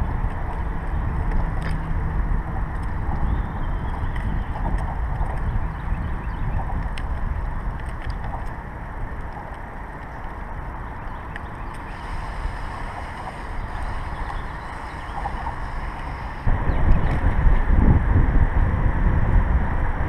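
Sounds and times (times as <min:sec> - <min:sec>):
steady rumbling noise: 0:00.0 - 0:20.0
wind buffeting microphone: 0:00.0 - 0:20.0.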